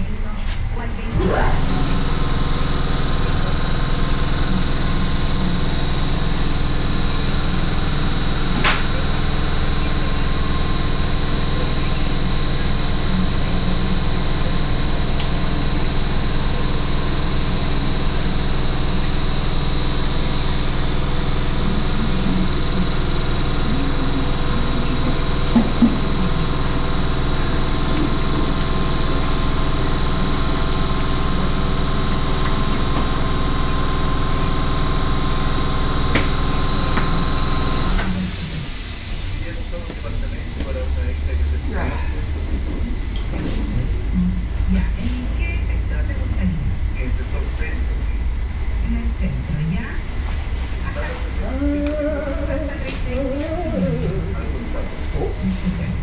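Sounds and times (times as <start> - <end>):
cutting machine humming and hissing: 0.6 - 49.2, 49.8 - 56.0.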